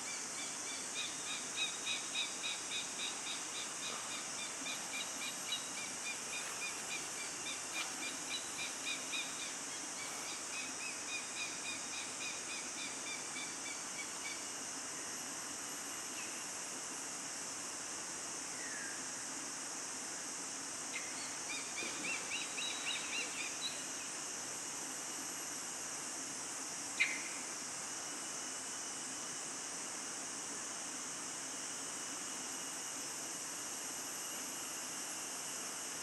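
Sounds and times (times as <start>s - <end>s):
forest background hiss: 0.0s - 36.0s.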